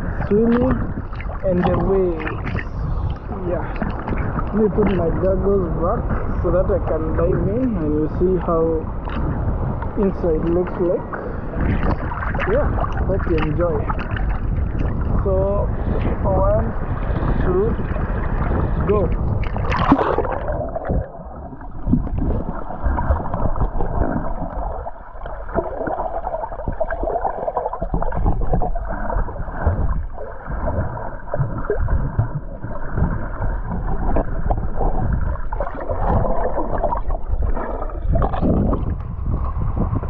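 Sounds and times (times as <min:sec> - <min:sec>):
underwater water churning: 0:00.0 - 0:07.7, 0:08.3 - 0:40.0.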